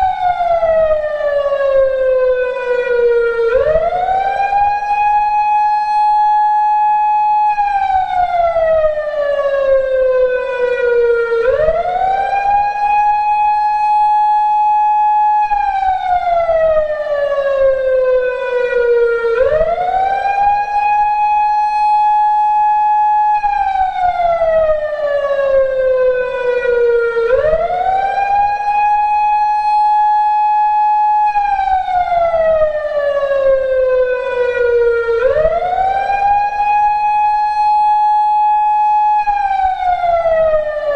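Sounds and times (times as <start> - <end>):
electronic siren wailing: 0.0 - 40.9.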